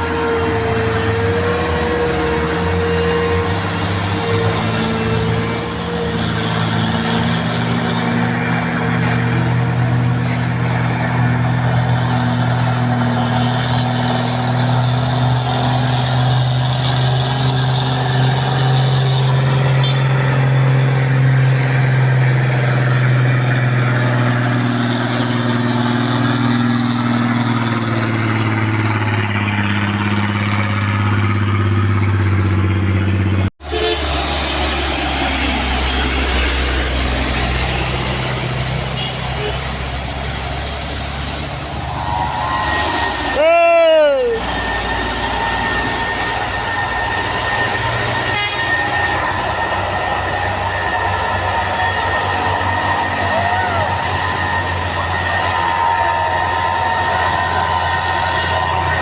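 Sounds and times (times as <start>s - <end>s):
truck engine humming: 0.0s - 59.0s.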